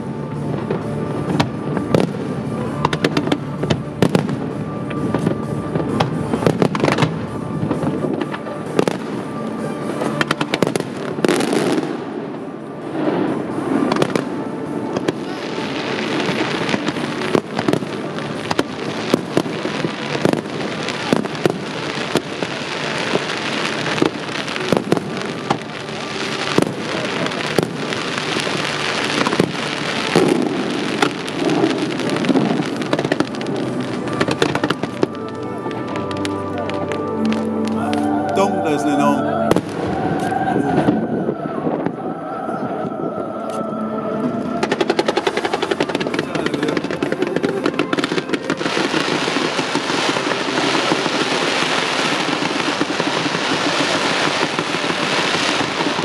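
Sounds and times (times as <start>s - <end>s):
firework crackle and hiss: 0.0s - 42.0s, 44.6s - 56.0s.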